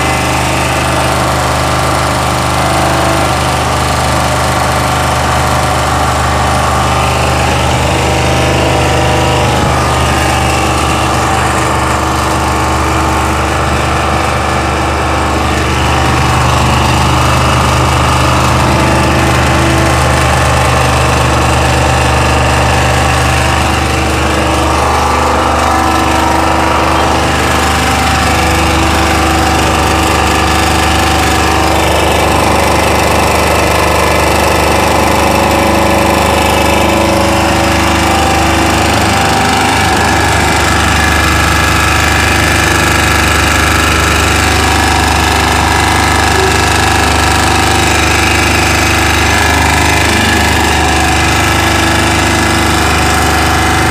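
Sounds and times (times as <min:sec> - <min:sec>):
portable generator running: 0:00.0 - 0:53.9.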